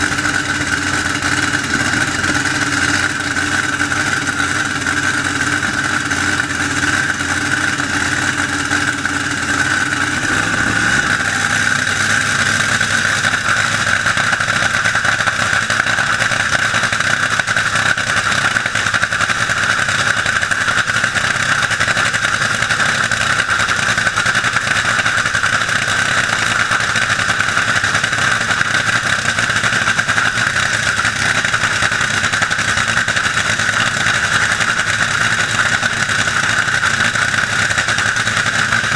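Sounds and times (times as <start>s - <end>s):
boat engine idling: 0.0s - 38.9s.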